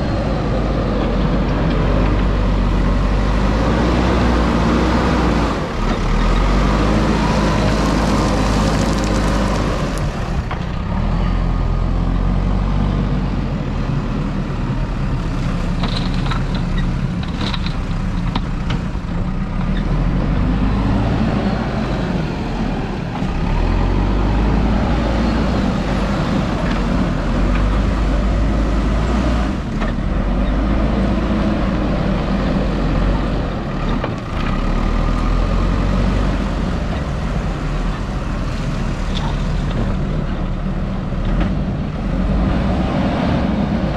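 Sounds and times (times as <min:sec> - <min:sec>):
diesel engine revving under load: 0:00.0 - 0:43.9.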